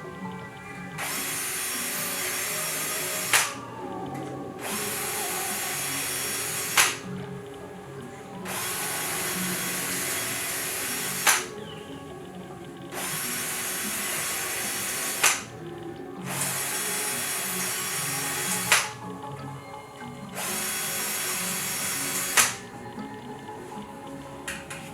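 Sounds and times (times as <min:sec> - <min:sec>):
power drill bursts: 0:00.0 - 0:19.4, 0:20.3 - 0:22.8
quiet background music: 0:00.0 - 0:24.9.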